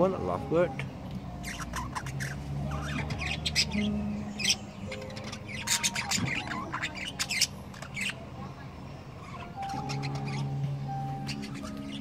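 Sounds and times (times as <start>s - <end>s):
parrots squawking and chirping: 0.0s - 12.0s.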